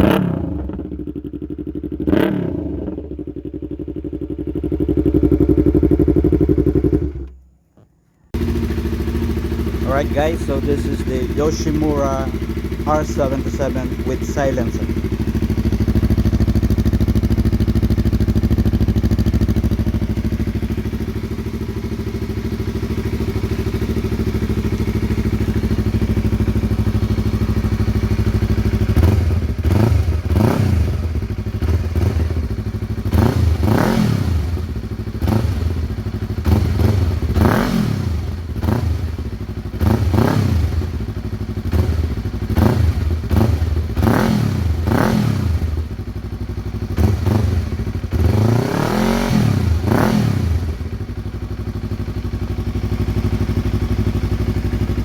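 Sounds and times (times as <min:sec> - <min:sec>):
motorcycle engine idling and revving: 0:00.0 - 0:07.5, 0:08.3 - 0:55.0.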